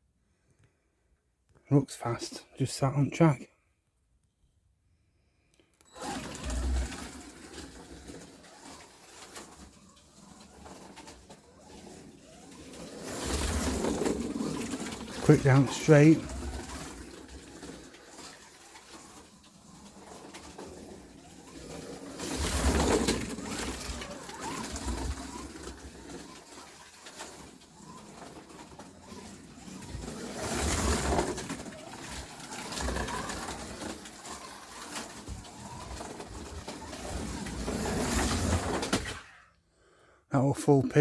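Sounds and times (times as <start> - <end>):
slot car motor whirr: 5.8 - 39.6.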